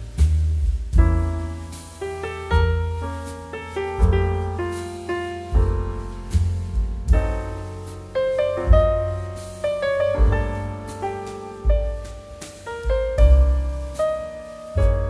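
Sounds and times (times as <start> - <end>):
deep bass notes: 0.0 - 15.0
keyboard melody: 1.2 - 15.0.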